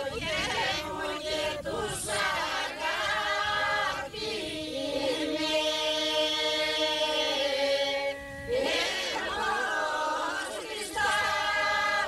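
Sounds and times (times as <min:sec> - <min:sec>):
group singing unaccompanied folk song: 0:00.0 - 0:12.0.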